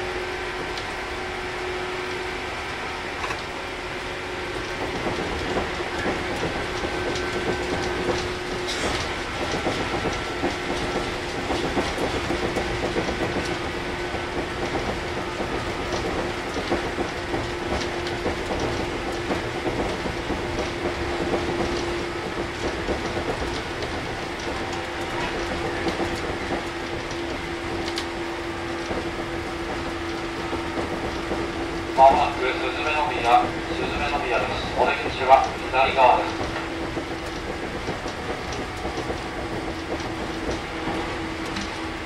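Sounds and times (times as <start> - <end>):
train motor rumble and tone: 0.0 - 42.0
wheels clattering on track: 0.0 - 42.0.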